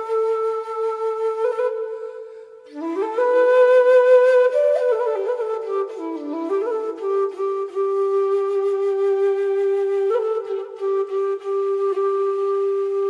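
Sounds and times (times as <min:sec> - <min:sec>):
slow breathy flute melody: 0:00.0 - 0:13.0.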